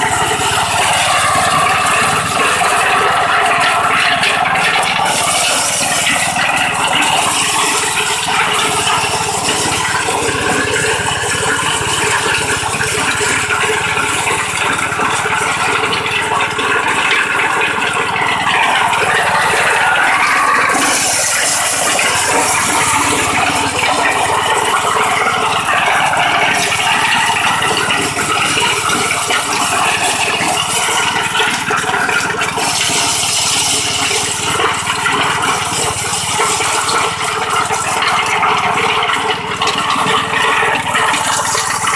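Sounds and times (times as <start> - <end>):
corn sheller rattling: 0.0 - 41.9
petrol engine running: 0.0 - 41.9.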